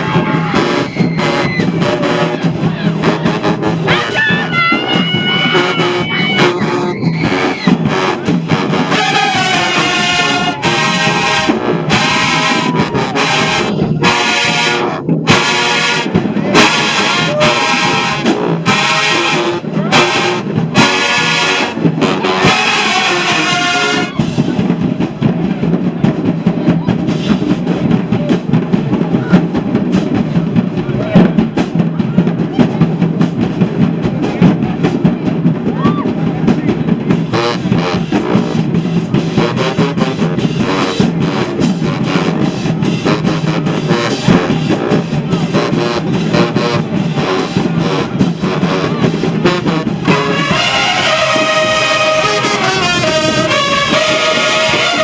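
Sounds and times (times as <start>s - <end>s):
drumline playing: 0.0s - 55.0s
marching band brass horns: 0.0s - 55.0s.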